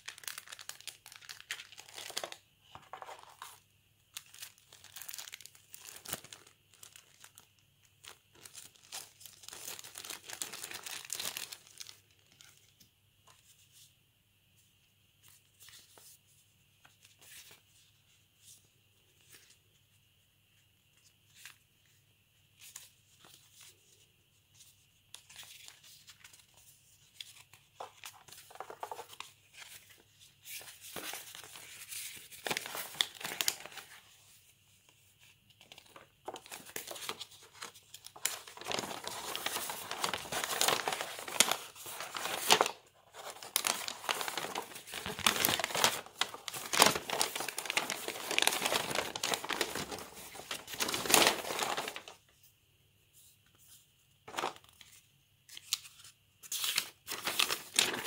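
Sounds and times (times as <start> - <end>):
paper rustling and crinkling: 0.0 - 13.9, 22.6 - 52.2, 53.5 - 58.0.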